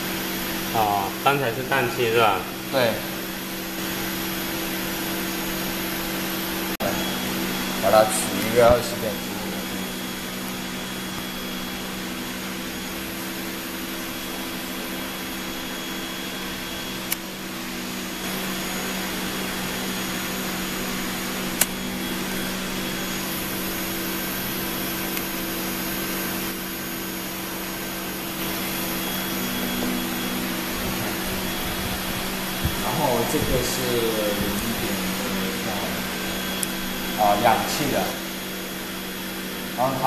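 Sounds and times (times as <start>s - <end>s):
air blower whirring: 0.0s - 40.0s.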